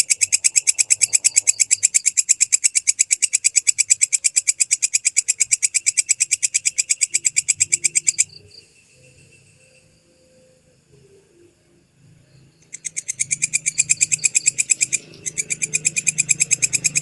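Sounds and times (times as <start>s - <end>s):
katydid shrill ticking call: 0.0s - 9.4s, 12.6s - 17.0s.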